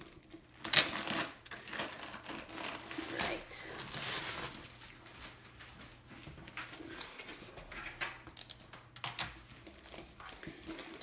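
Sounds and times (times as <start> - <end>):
plastic wrapping rustling: 0.0 - 8.3, 9.3 - 11.0.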